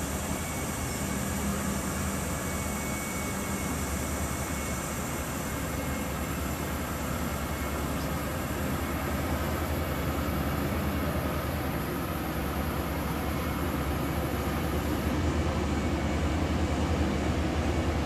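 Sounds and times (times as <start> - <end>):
diesel truck engine humming: 0.0 - 18.0.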